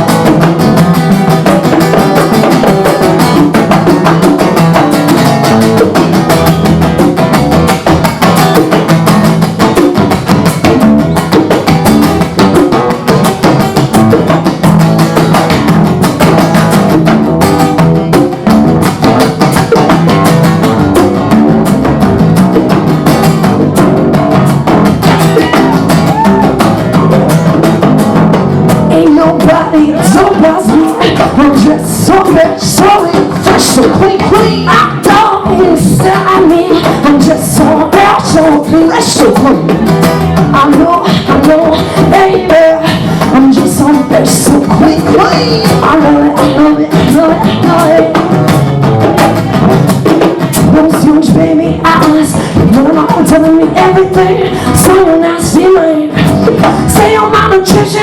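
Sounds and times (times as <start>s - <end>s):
acoustic guitar strumming: 0.0s - 58.0s
hand percussion: 0.0s - 58.0s.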